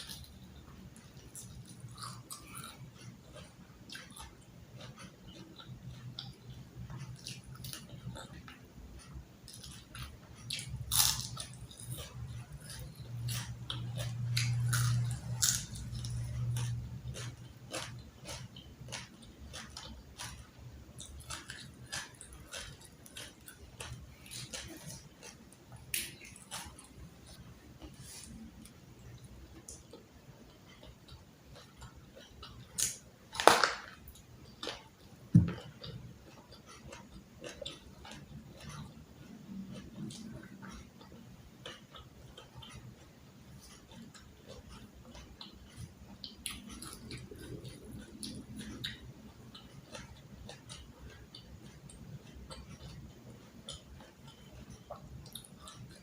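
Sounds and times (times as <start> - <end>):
low steady hum: 0.0 - 56.0
person chewing crunchy food: 0.0 - 56.0.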